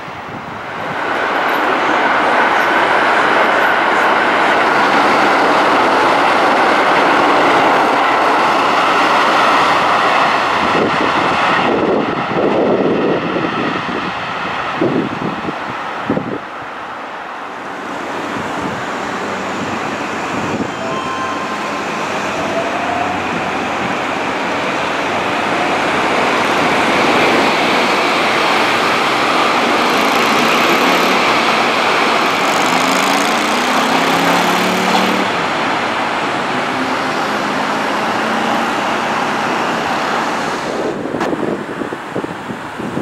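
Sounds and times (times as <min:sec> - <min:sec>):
train passing at speed: 0:00.0 - 0:43.0.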